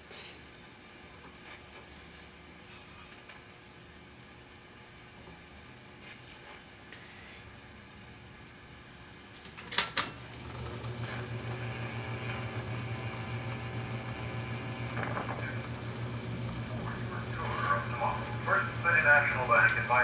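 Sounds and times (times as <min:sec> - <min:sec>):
wire recorder running hum: 0:00.6 - 0:20.0.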